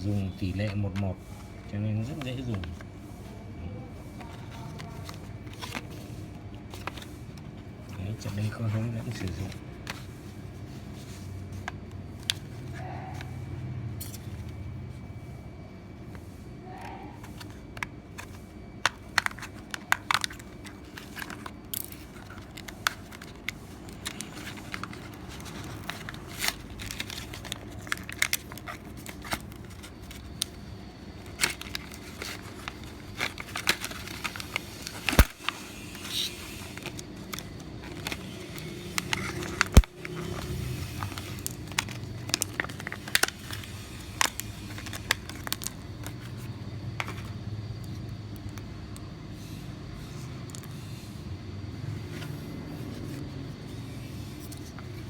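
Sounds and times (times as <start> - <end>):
crinkly plastic packaging handled: 0.0 - 51.1.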